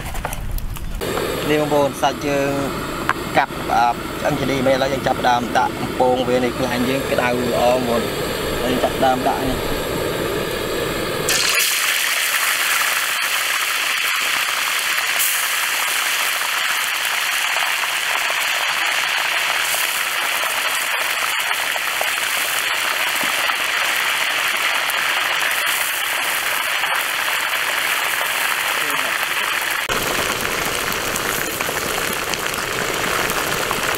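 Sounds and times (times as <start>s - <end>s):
meat deep-frying in hot oil: 1.0s - 33.9s.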